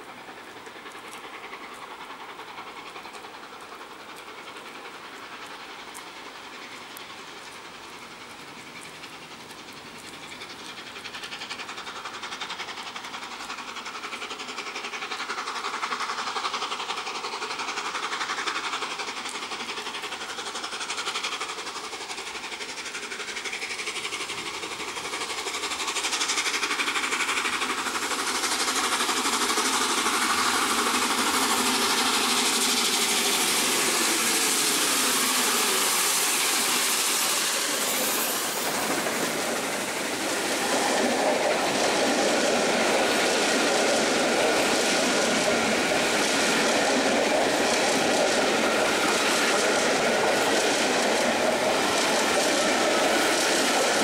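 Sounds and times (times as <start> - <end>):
steam locomotive passing: 0.0 - 54.0
wheels clacking on rail joints: 0.0 - 54.0.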